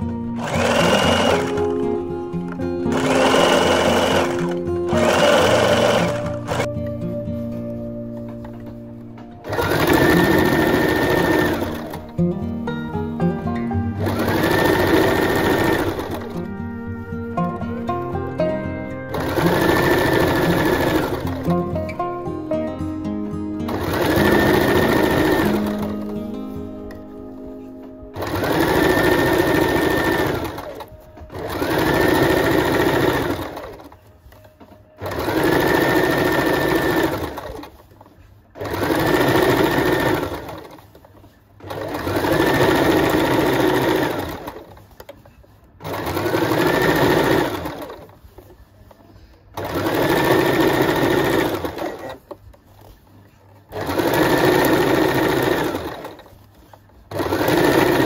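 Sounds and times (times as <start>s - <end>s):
sewing machine stitching: 0.0s - 6.7s, 8.2s - 12.2s, 13.2s - 17.5s, 18.3s - 22.0s, 23.6s - 27.0s, 28.1s - 58.0s.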